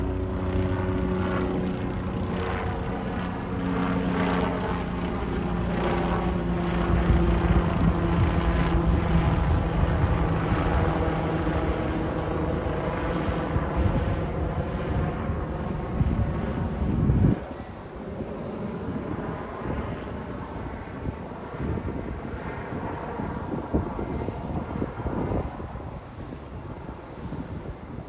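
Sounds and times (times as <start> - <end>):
helicopter flying overhead: 0.0 - 28.0.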